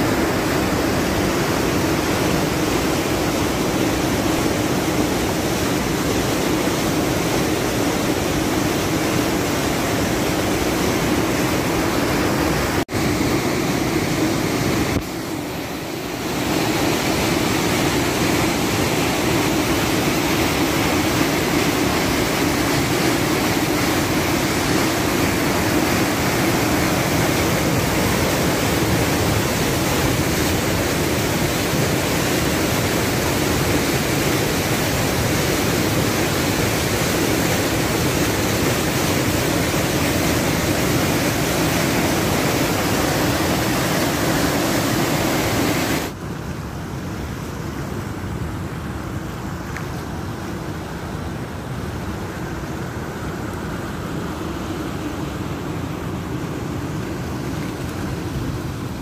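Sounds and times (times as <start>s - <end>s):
water rushing over a drop: 0.0s - 59.0s.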